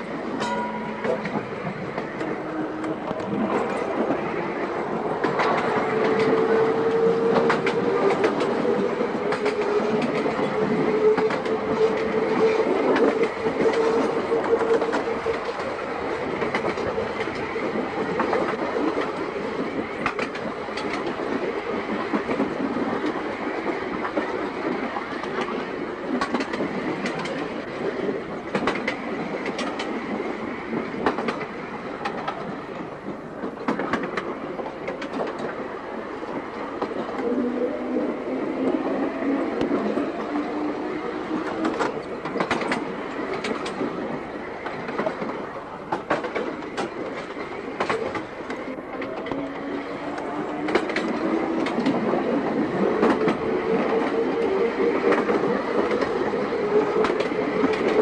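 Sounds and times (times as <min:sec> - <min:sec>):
tram rumbling on track: 0:00.0 - 0:58.0
wheels clicking over rail joints: 0:00.0 - 0:58.0.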